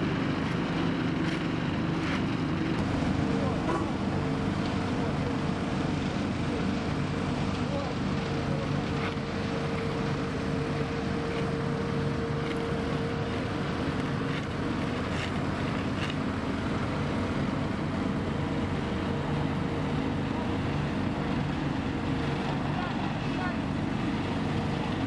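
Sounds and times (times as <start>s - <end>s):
asphalt roller diesel engine running: 0.0s - 25.0s
steady whine: 0.0s - 25.0s.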